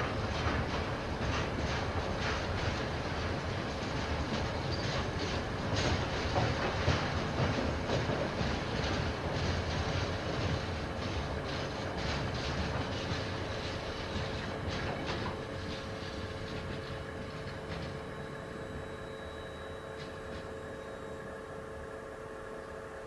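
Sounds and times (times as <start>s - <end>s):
train rolling rumble: 0.0s - 21.5s.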